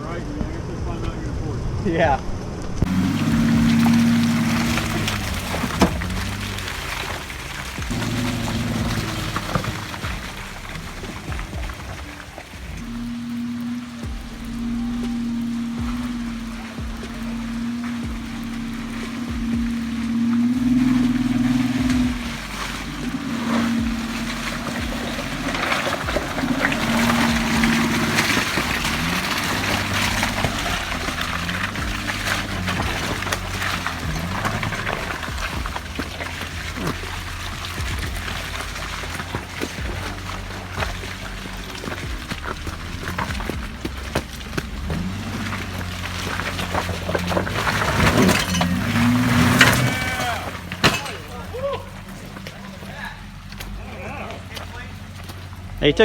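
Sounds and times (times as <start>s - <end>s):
suv engine running under load: 0.0s - 56.0s
tyres crackling over rock: 0.0s - 56.0s.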